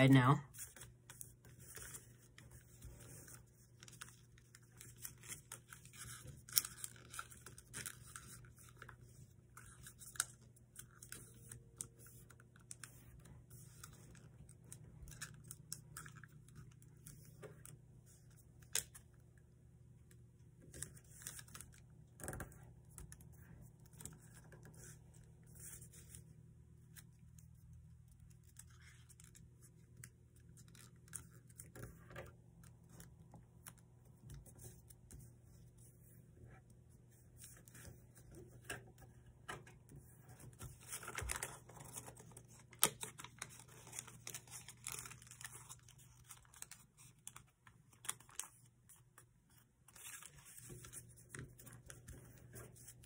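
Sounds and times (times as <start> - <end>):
paper crinkling and creasing: 0.5 - 19.2, 20.6 - 53.0.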